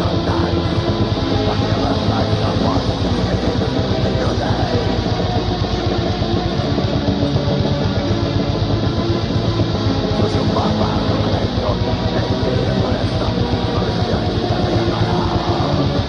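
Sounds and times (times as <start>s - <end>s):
metal music with distorted guitars: 0.0s - 16.0s.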